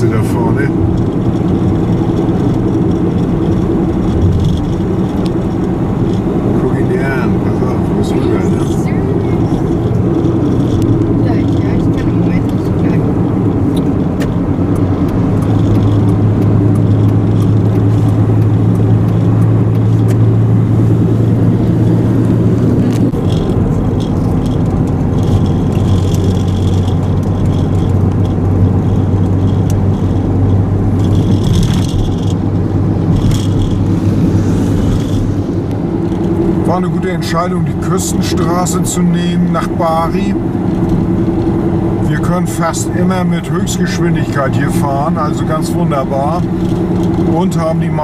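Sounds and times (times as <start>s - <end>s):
car engine drone: 0.0s - 48.0s
tyre and road noise: 0.0s - 48.0s.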